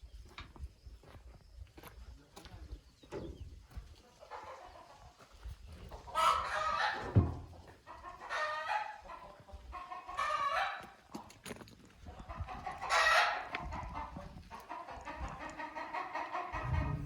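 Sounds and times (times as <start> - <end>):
chickens calling: 2.7 - 17.0.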